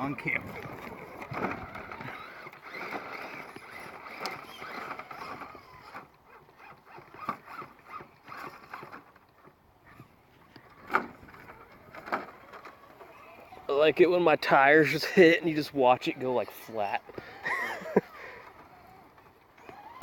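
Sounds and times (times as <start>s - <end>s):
electric motor and gears whirring: 0.0s - 20.0s
tires scraping on rocks: 0.0s - 20.0s.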